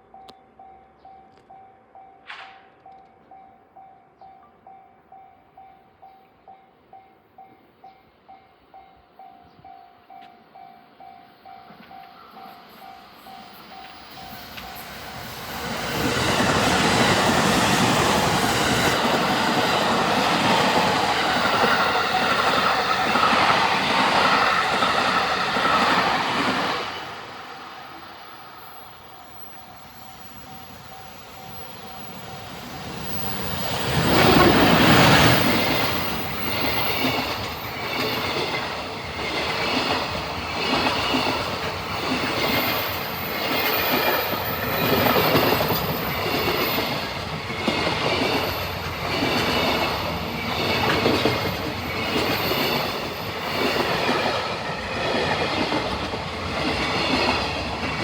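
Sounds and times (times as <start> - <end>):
passenger train wheel-on-rail noise: 4.4 - 58.0
electric locomotive passing: 4.6 - 58.0.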